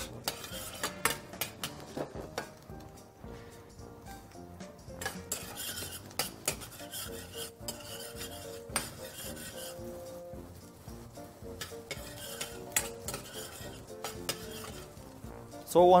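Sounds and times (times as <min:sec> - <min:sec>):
utensil scraping in metal pan: 0:00.0 - 0:02.6, 0:04.9 - 0:15.5.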